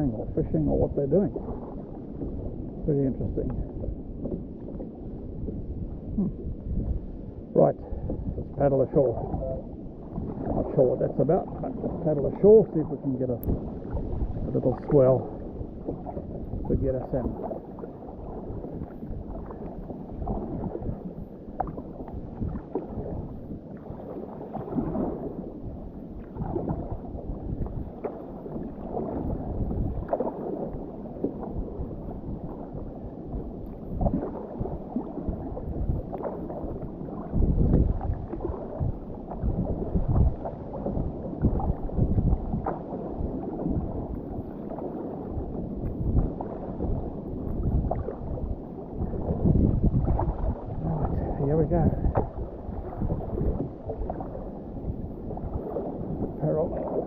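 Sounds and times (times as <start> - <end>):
paddle splashing water: 0.0 - 57.0
water sloshing against hull: 0.0 - 57.0.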